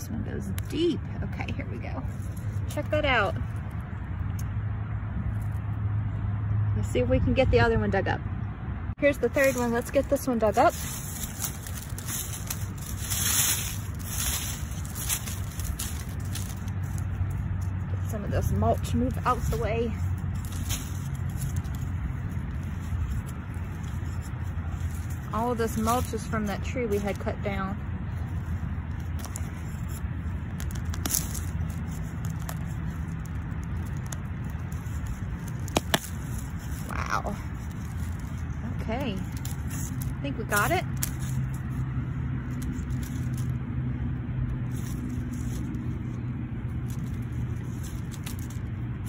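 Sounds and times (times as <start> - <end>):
dry leaves rustling and crackling: 0.0 - 4.6, 9.0 - 49.0
low rumble: 0.0 - 49.0
trowel digging through mulch and soil: 9.0 - 49.0.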